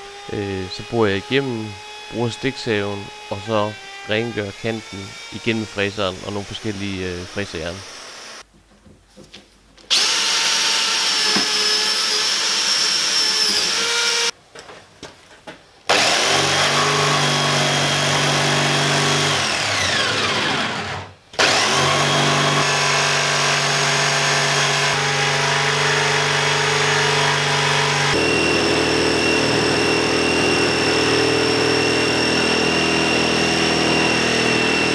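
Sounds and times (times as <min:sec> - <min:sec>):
cordless drill boring wood: 0:00.0 - 0:08.4, 0:09.9 - 0:14.3, 0:15.9 - 0:34.9
jigsaw cutting wood: 0:00.0 - 0:08.4, 0:09.9 - 0:14.3, 0:15.9 - 0:34.9.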